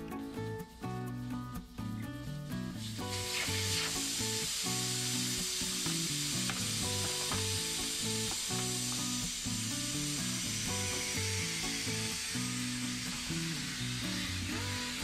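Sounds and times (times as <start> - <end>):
background music with bass line: 0.0 - 15.0
steady hiss: 2.6 - 15.0.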